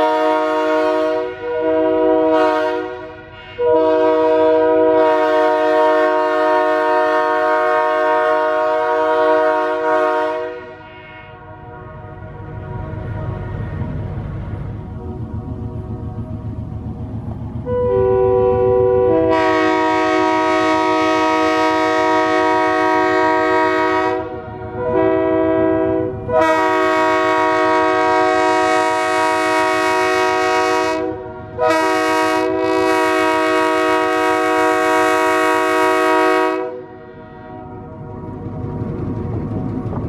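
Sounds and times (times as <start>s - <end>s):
train air horn blasts: 0.0s - 12.7s, 17.6s - 38.0s
locomotive engine rumble: 0.0s - 40.0s.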